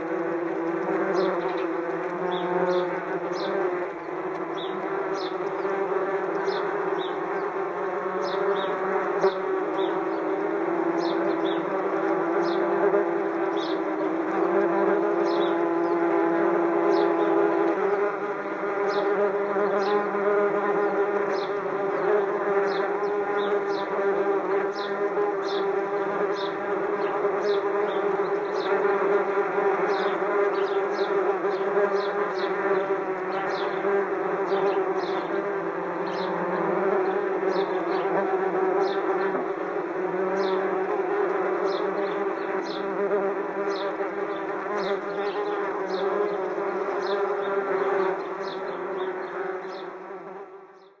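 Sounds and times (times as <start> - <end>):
wasps buzzing: 0.0 - 50.9
sparrows chirping: 0.9 - 16.2, 16.9 - 51.0.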